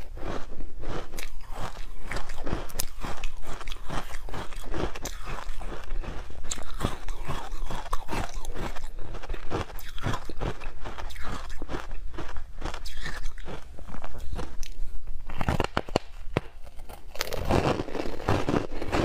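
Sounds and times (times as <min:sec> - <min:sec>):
crunchy chewing of ice: 0:00.0 - 0:19.0.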